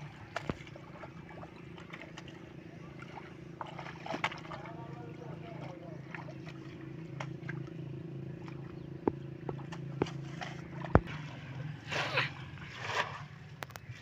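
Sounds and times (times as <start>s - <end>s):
steady low hum: 0.0s - 14.0s
water splashing: 0.0s - 14.0s.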